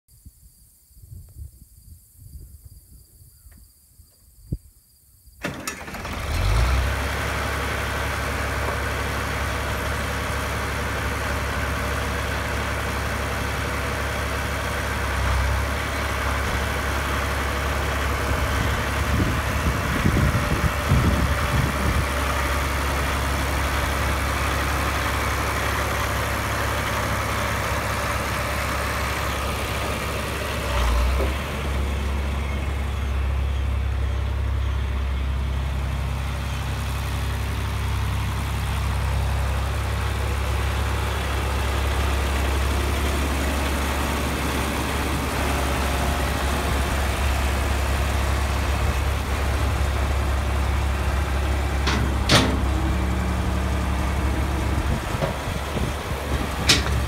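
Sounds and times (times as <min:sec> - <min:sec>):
diesel tractor engine starting: 0:05.4 - 0:57.0
tractor engine idling: 0:05.4 - 0:57.0.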